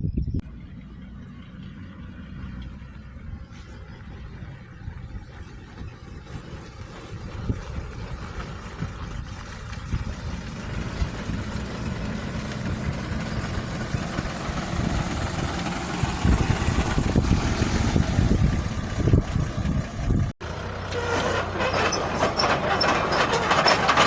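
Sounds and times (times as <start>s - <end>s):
heavy diesel engine running: 0.4s - 24.0s.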